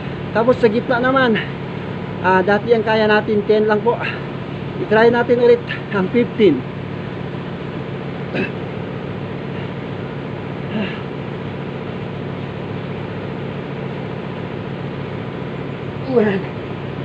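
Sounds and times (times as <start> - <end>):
machine droning: 0.0 - 17.0.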